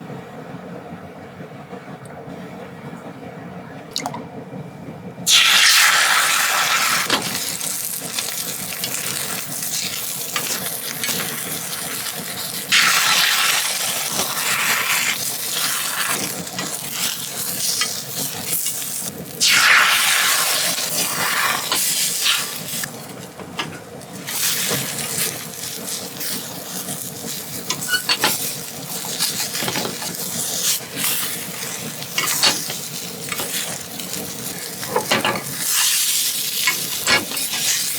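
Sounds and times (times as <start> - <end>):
food sizzling in a pan: 5.3 - 23.2, 24.1 - 37.9.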